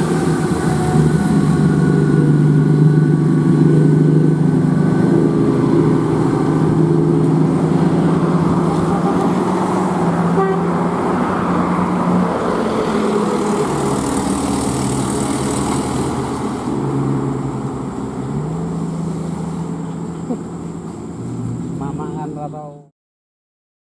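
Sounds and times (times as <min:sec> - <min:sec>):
dump truck diesel engine droning: 0:00.0 - 0:22.8.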